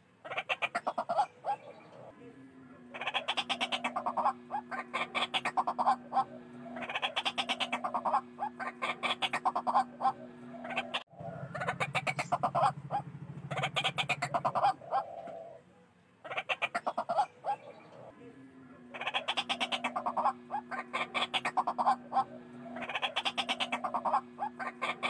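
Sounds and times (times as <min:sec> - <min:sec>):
waterhens croaking calls: 0:00.0 - 0:02.1, 0:02.8 - 0:18.2, 0:18.8 - 0:25.0.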